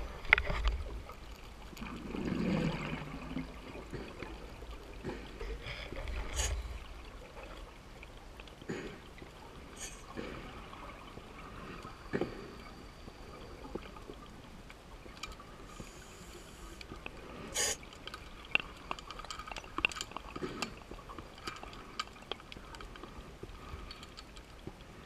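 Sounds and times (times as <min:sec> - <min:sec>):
underwater bubbles gurgling: 0:00.0 - 0:25.0.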